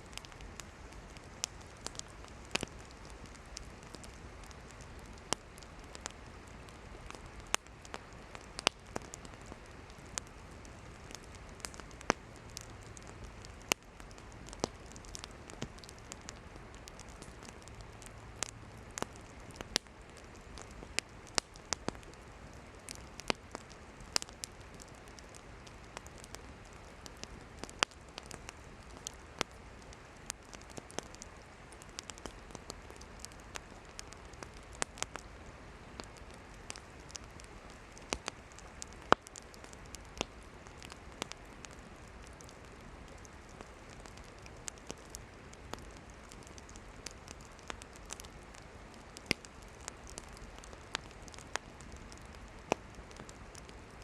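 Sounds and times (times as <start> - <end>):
campfire flames hissing: 0.0 - 54.0
firewood popping and snapping: 0.2 - 29.6, 30.2 - 35.3, 35.9 - 53.8.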